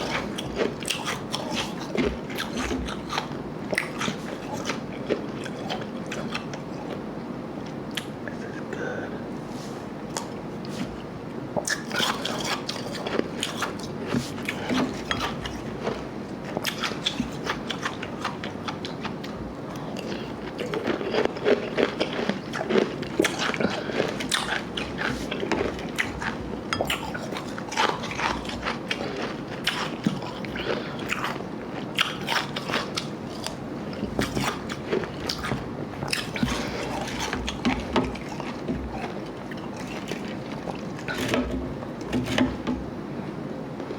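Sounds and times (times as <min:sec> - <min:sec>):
chewing and crunching ice: 0:00.0 - 0:07.0, 0:11.7 - 0:41.6.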